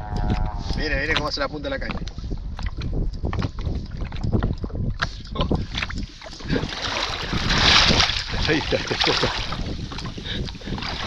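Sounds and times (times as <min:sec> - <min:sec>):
wind rumbling on microphone: 0:00.0 - 0:11.0
water slapping kayak hull: 0:00.1 - 0:11.0.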